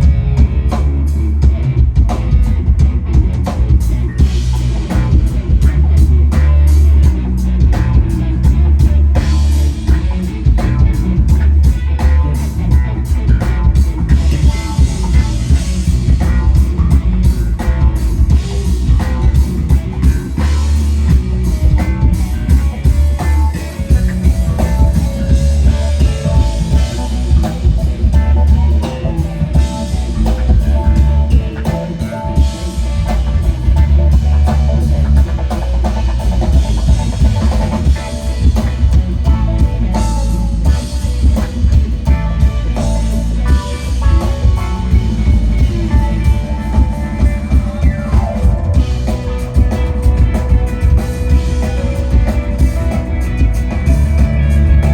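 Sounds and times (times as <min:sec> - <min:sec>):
drums: 0:00.0 - 0:54.9
electric guitar: 0:00.0 - 0:54.9
heavy bass line: 0:00.0 - 0:54.9.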